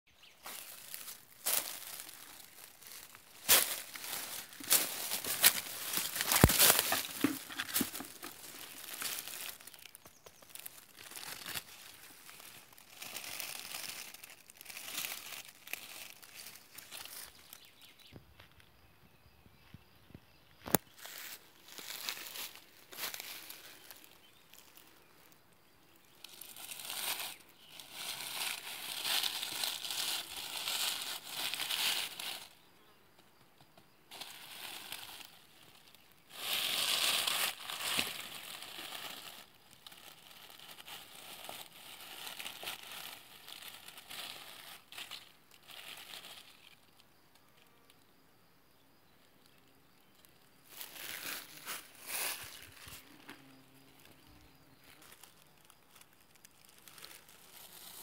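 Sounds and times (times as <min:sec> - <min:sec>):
dry leaves and grass rustling: 0:00.1 - 0:18.6, 0:20.6 - 0:48.0, 0:49.0 - 0:58.0.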